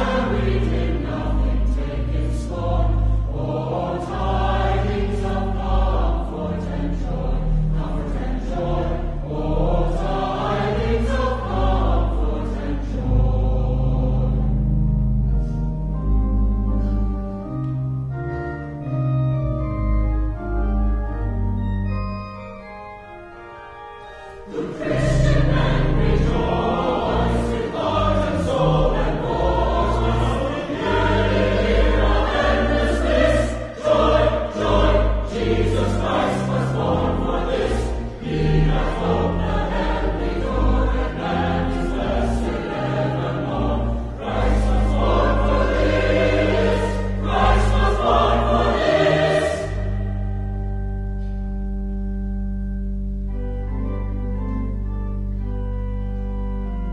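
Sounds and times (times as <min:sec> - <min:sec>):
choir singing with accompaniment: 0:00.0 - 0:19.0, 0:20.3 - 0:51.6
soft instrumental passage: 0:00.0 - 0:56.9.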